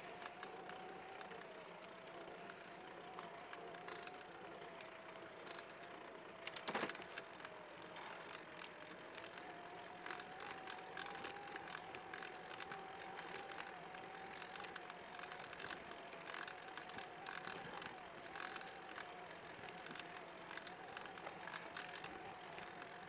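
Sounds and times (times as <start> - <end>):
ticks and rattles: 0.0 - 23.0
trike rolling whine: 0.0 - 23.0.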